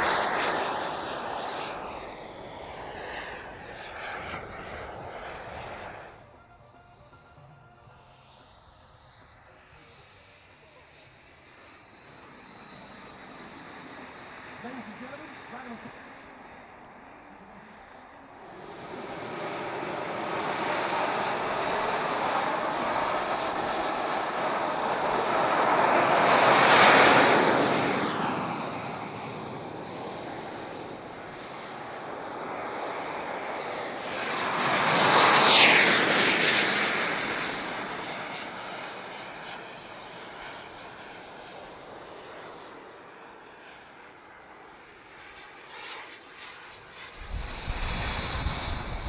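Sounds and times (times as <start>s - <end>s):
thin high whine: 0.0s - 39.7s, 47.0s - 49.0s
model aircraft engine passing: 0.0s - 49.0s.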